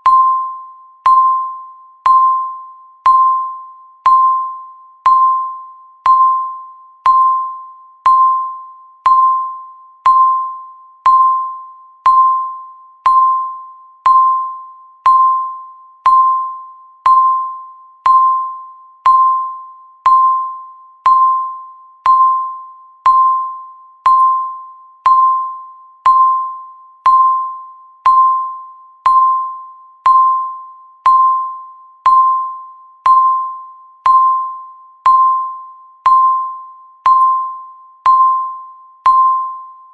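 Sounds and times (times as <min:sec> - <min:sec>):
timer electronic beeps: 0:00.0 - 0:39.9.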